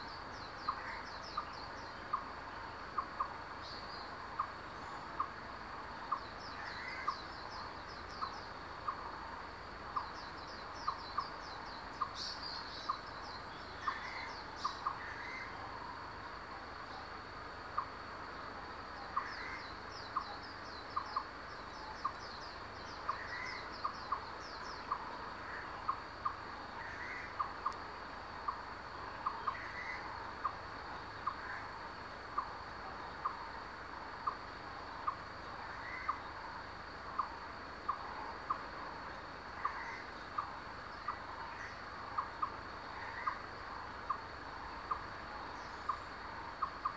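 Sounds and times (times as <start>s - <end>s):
high insect drone: 0.0s - 46.9s.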